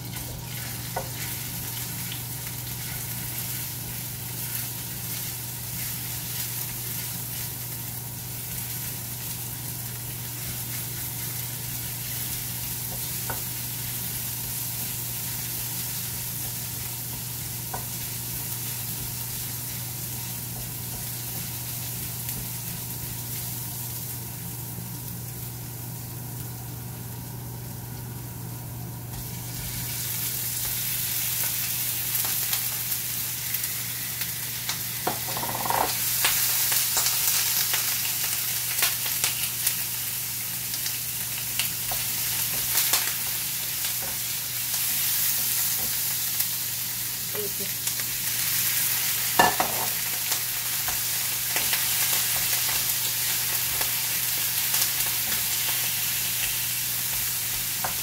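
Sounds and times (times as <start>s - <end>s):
garlic sizzling in oil: 0.0s - 58.0s
meat frying: 0.0s - 58.0s.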